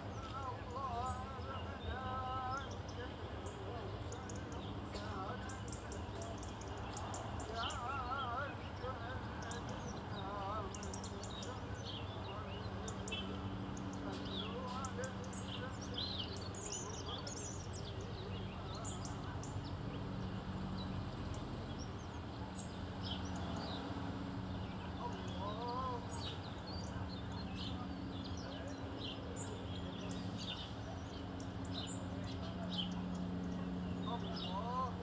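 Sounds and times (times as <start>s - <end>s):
crowd murmuring: 0.0s - 35.0s
small birds chirping: 0.0s - 35.0s.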